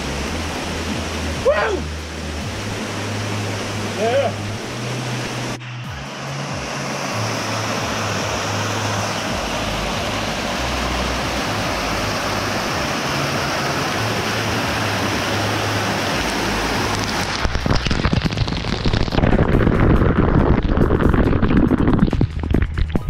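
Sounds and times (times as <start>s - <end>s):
water hitting microphone: 0.0s - 23.0s
waterfall splashing into pool: 0.0s - 23.0s.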